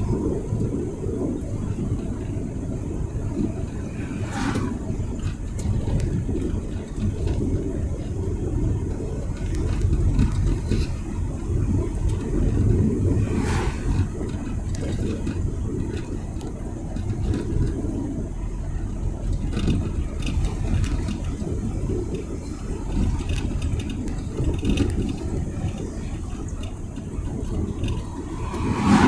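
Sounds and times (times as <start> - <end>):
car driving rumble: 0.0 - 29.0.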